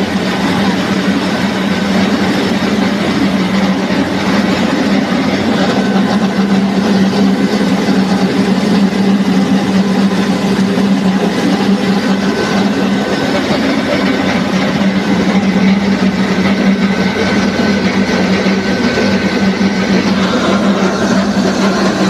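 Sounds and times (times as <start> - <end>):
rice milling machine running: 0.0 - 22.0.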